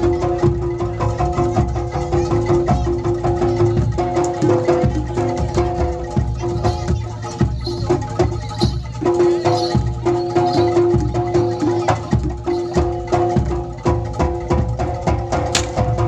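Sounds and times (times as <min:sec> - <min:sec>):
drum and wood-block strikes: 0:00.0 - 0:16.0
gamelan ensemble music: 0:00.0 - 0:16.0.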